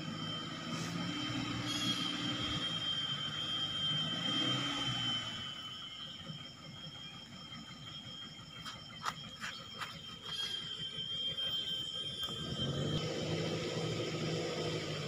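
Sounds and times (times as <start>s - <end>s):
distant truck engine: 0.0s - 15.0s
high-pitched whine: 0.0s - 15.0s.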